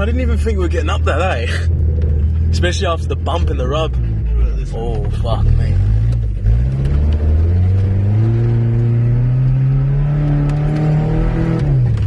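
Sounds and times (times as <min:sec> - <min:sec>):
car engine pulling under load: 0:00.0 - 0:12.0.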